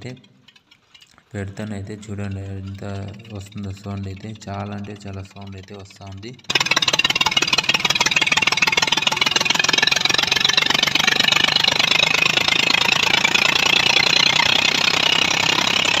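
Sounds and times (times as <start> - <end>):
diesel engine popping rattle: 0.0 - 16.0.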